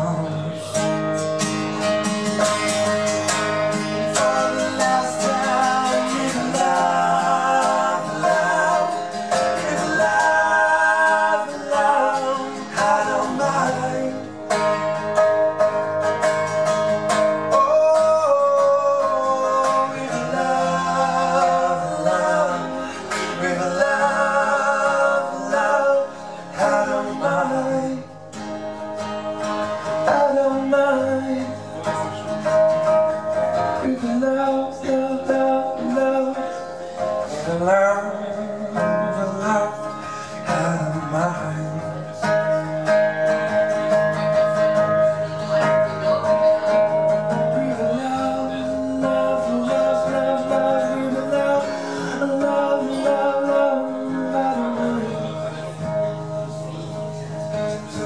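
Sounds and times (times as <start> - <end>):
acoustic guitars strummed: 0.0 - 58.0
man singing: 0.0 - 58.0.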